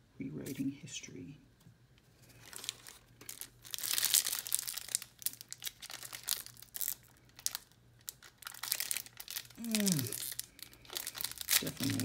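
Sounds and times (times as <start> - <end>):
foil wrapper crinkling and tearing: 2.2 - 12.0.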